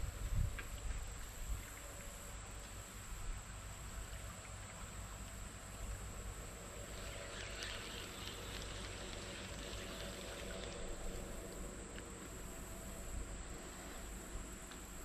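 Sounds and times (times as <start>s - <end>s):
faint crackling hiss: 0.0s - 15.0s
low steady creek rumble: 0.0s - 15.0s.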